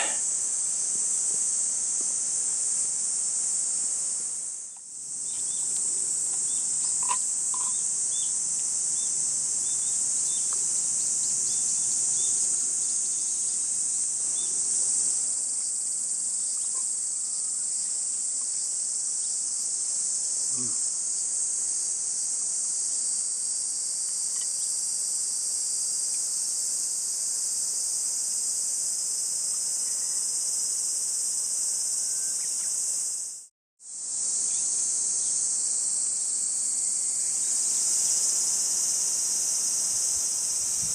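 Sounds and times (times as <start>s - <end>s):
insect chorus shrill drone: 0.0s - 40.9s.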